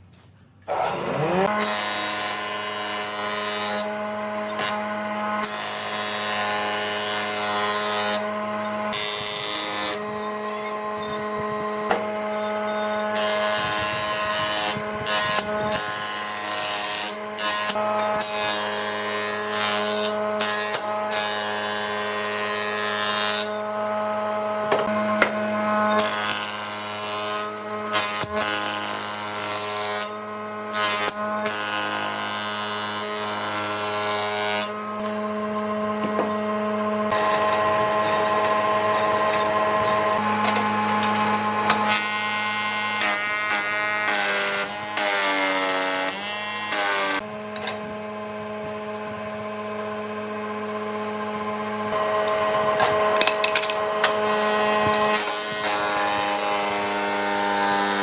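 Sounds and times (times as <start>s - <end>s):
power tool motor working wood: 0.6s - 58.0s.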